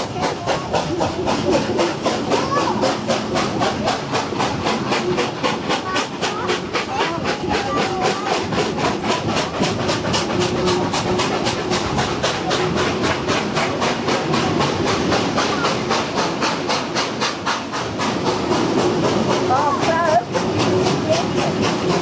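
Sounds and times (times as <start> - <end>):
steam locomotive exhaust beats: 0.0 - 22.0
train running noise: 0.0 - 22.0.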